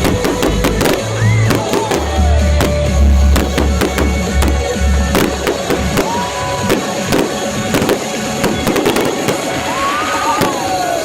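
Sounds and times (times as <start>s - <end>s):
music with deep bass: 0.0s - 9.5s
fireworks banging and crackling: 0.0s - 11.0s
firework whistle: 0.6s - 11.0s.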